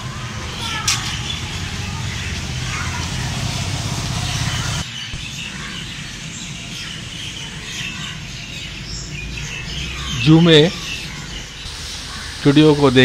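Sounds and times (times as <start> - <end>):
wild birds chirping: 0.0 - 13.0
woodland ambience: 0.0 - 13.0.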